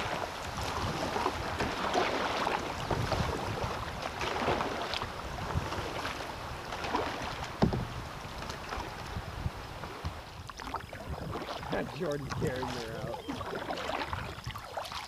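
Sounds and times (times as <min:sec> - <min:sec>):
kayak paddle splashing: 0:00.0 - 0:15.0
water running along a hull: 0:00.0 - 0:15.0.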